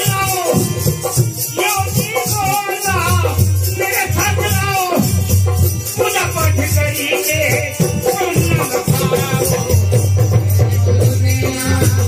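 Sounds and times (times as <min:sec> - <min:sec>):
man singing through loudspeaker: 0:00.0 - 0:12.0
pulsing drum: 0:00.0 - 0:12.0
rattling percussion: 0:00.0 - 0:12.0.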